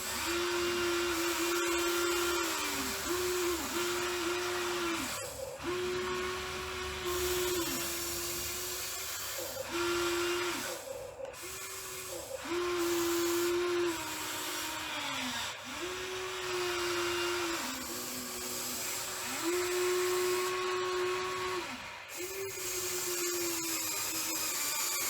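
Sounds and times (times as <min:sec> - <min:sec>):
electric pump motor whining: 0:00.0 - 0:25.0.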